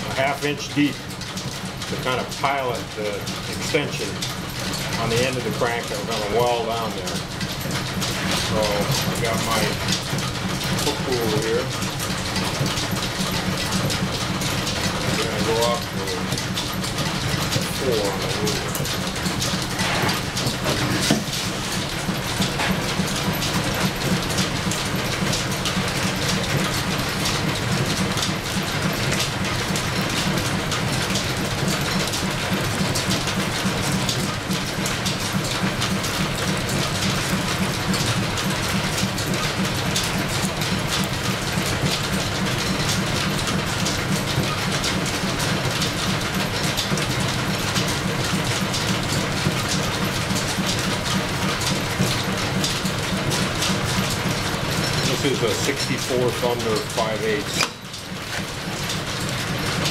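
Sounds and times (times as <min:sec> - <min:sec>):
belt-driven lathe running: 0:00.0 - 0:59.9
clatter of belts and pulleys: 0:00.0 - 0:59.9.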